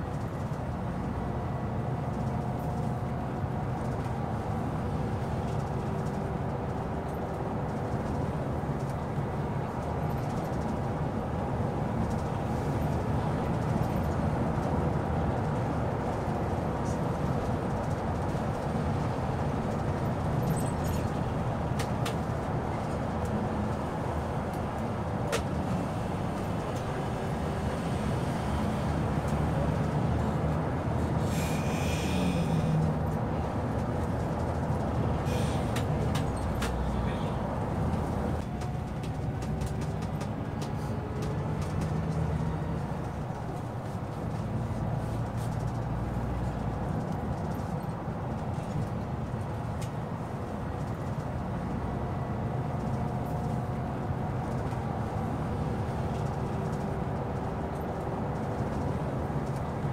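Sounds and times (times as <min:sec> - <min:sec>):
engine hum and road rumble: 0:00.0 - 0:59.9.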